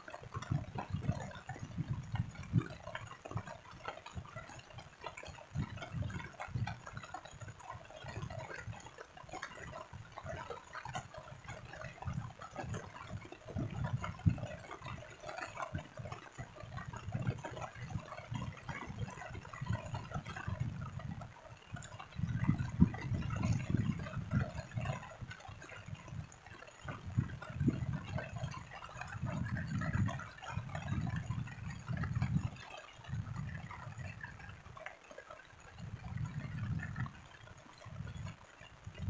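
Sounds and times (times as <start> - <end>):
small water drips: 0.0 - 39.0.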